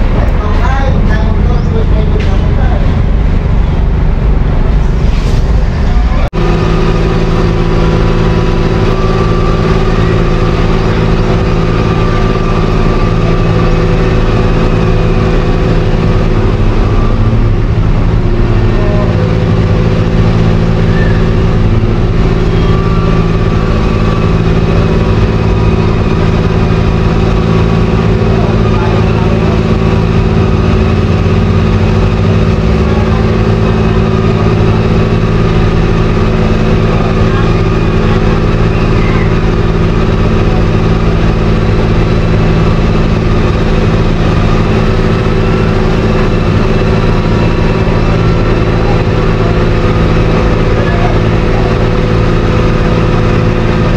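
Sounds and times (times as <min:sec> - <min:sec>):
engines droning steadily: 0:00.0 - 0:53.9.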